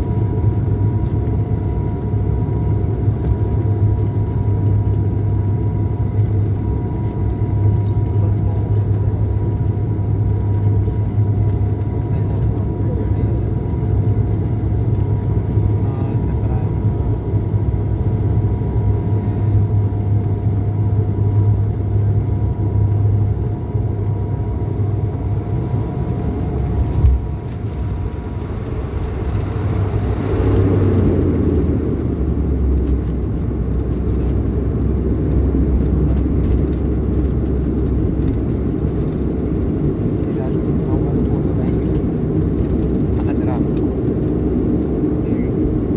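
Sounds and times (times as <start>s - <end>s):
airplane engine rumble: 0.0s - 45.9s.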